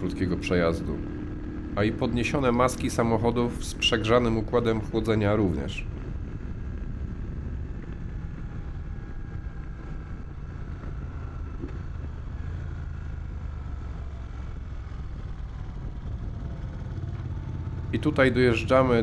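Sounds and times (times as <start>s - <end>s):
motorcycle engine running: 0.0s - 19.0s
wind rushing over microphone: 3.3s - 19.0s.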